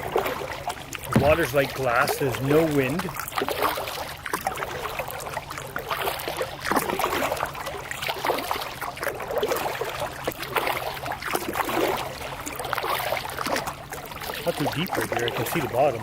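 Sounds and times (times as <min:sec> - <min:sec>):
paddle strokes in water: 0:00.0 - 0:16.0.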